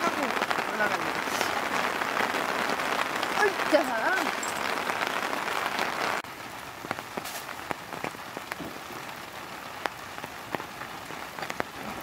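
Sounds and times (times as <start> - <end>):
heavy rain on a tarp: 0.0 - 12.0
raindrops tapping: 0.0 - 12.0.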